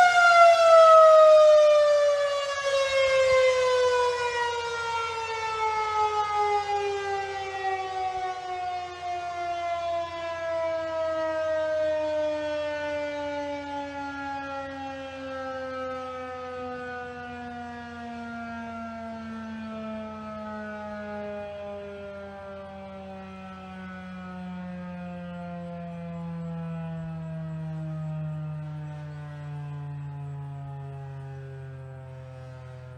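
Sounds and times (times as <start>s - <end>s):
tornado siren winding down: 0.0s - 32.9s.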